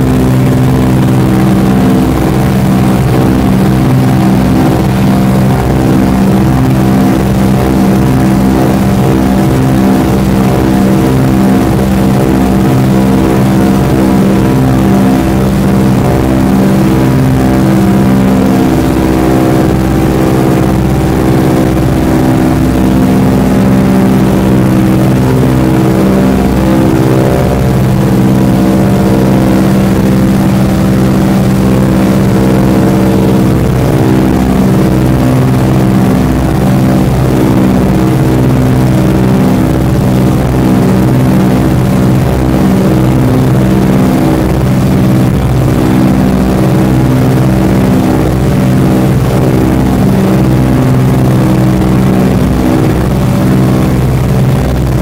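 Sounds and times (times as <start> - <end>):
airplane engines droning in cabin: 0.0 - 55.0.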